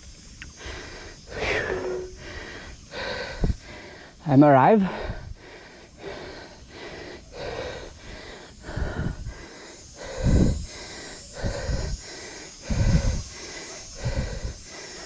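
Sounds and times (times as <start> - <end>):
breath gusting on microphone: 0.5 - 4.2, 4.8 - 15.0
man panting: 0.5 - 15.0.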